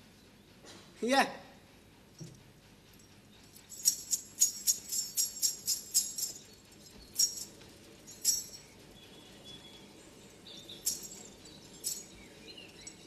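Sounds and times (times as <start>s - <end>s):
small bells jingling: 2.1s - 13.0s.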